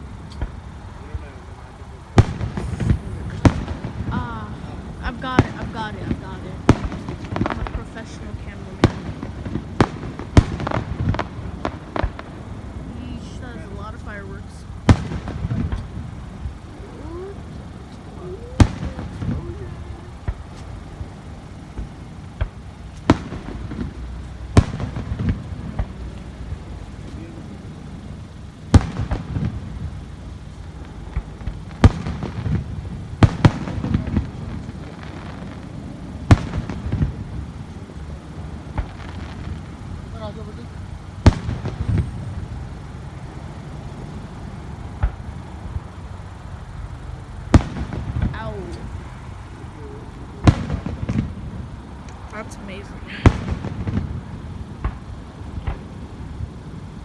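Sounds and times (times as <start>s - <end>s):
car engine idling: 0.0s - 57.0s
fireworks exploding: 0.0s - 57.0s.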